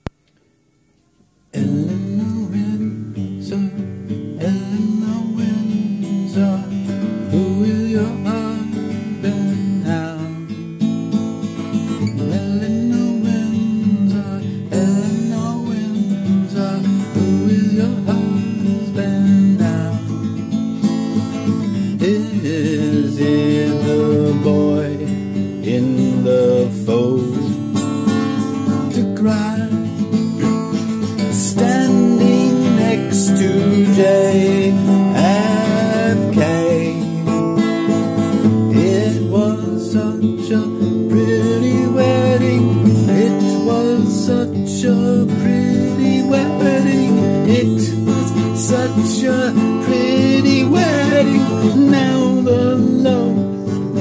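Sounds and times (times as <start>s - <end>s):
acoustic guitar strumming: 0.0s - 54.0s
person singing: 1.1s - 10.7s, 12.0s - 54.0s.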